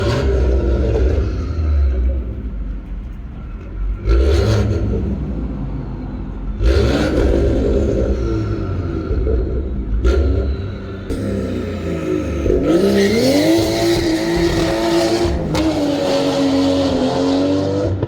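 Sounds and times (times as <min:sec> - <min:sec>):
car engine rumbling: 0:00.0 - 0:18.0
engine revving: 0:00.0 - 0:18.0.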